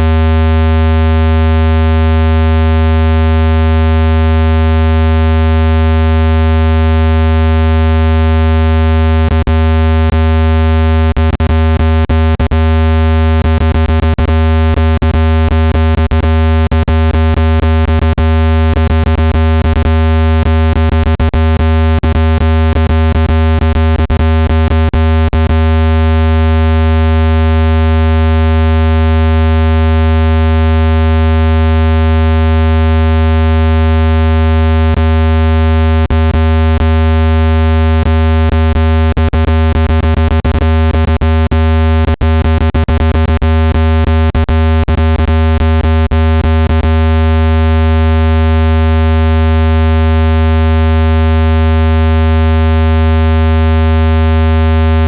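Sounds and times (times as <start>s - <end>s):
low buzzy electronic tone: 0.0s - 55.0s.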